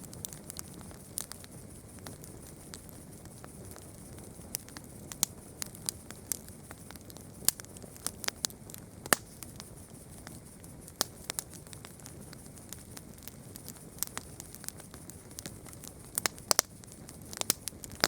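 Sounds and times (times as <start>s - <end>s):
campfire crackling: 0.0s - 18.0s
low fire hiss: 0.0s - 18.0s.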